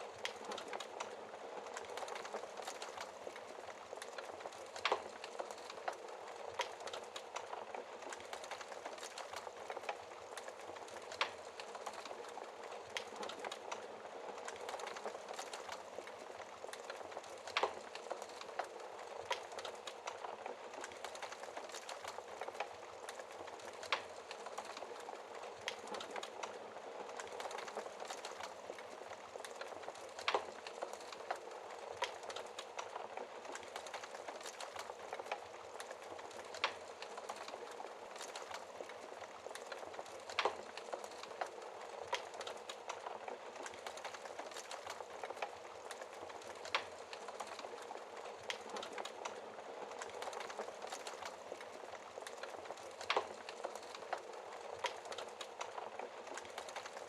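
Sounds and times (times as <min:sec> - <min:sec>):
wood fire crackling and hissing: 0:00.0 - 0:57.0.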